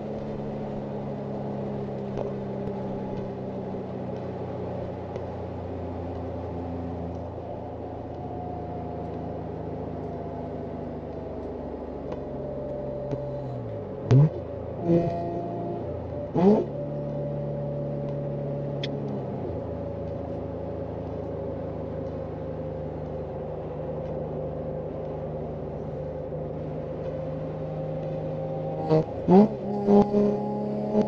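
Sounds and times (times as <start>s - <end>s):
car engine cruising drone: 0.0s - 31.0s
car engine revving: 0.0s - 31.0s.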